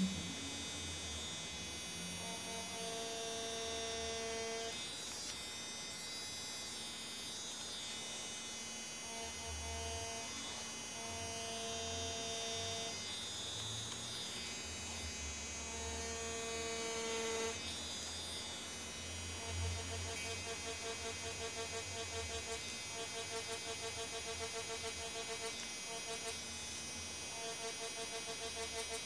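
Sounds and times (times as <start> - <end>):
tattoo machine humming: 0.0 - 29.0.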